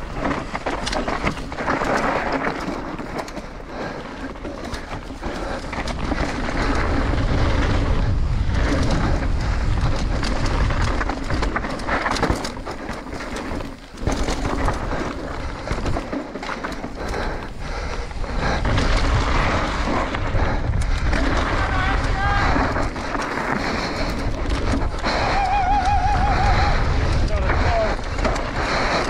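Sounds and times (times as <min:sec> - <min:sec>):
bike rattling and knocking: 0:00.0 - 0:29.0
tyres rumbling over dirt and stones: 0:00.0 - 0:29.0
wind buffeting microphone: 0:00.0 - 0:29.0.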